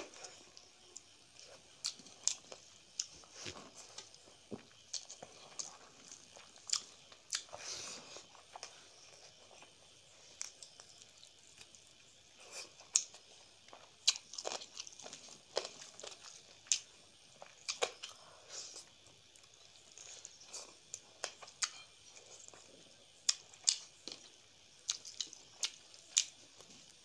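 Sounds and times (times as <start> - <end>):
chewing: 0.0 - 27.0.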